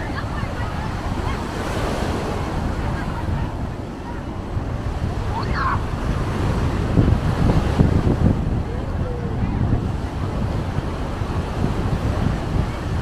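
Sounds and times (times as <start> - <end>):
sea waves washing onto shore: 0.0 - 13.0
wind buffeting microphone: 0.0 - 13.0.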